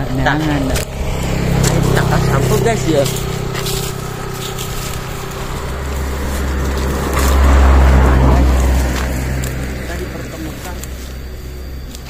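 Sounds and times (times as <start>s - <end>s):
loud low rumble: 0.0s - 12.0s
motorbike engine humming: 0.0s - 12.0s.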